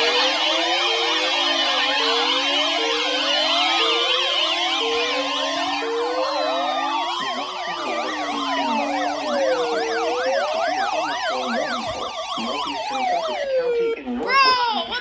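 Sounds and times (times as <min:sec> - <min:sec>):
wailing siren: 0:00.0 - 0:14.3
yelping siren: 0:00.0 - 0:14.3.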